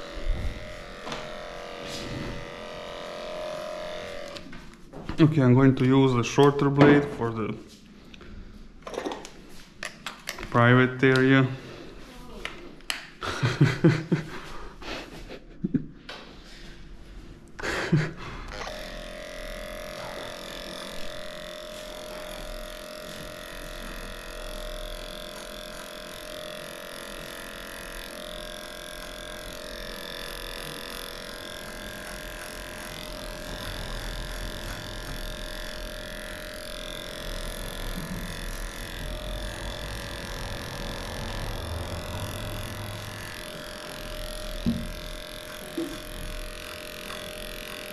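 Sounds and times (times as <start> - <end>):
electric clipper humming: 0.0 - 7.5, 8.8 - 11.8, 12.4 - 15.4, 17.5 - 47.9.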